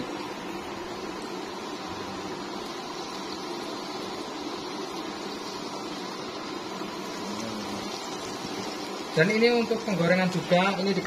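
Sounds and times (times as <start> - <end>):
hot oil sizzling in a wok: 0.0 - 11.0.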